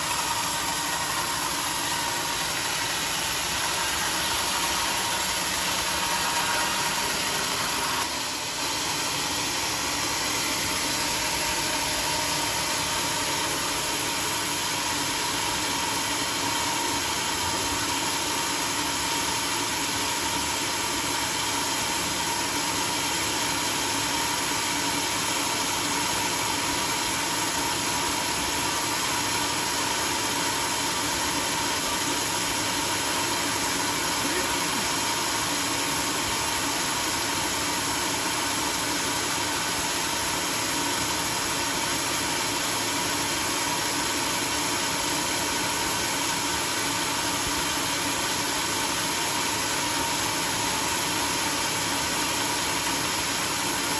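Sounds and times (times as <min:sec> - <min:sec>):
sawmill engine running: 0:00.0 - 0:53.9.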